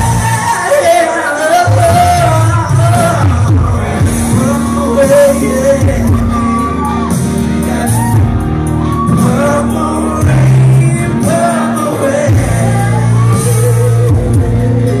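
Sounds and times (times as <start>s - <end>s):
person singing into a microphone: 0.0s - 8.0s, 8.8s - 15.0s
backing track with heavy bass: 0.0s - 15.0s.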